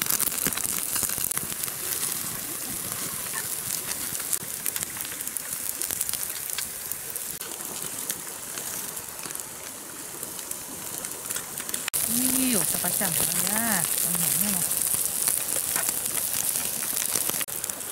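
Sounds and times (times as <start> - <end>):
meat sizzling on a grill: 0.0 - 17.9
wood fire crackling: 0.0 - 17.9.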